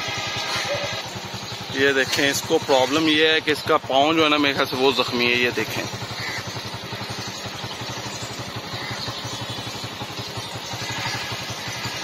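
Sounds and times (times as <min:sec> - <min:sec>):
small engine puttering: 0:00.0 - 0:12.0.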